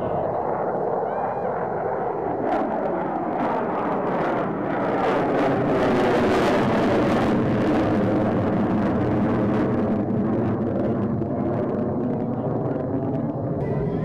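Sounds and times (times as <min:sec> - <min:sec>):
jet engine afterburner roar: 0:00.0 - 0:14.0.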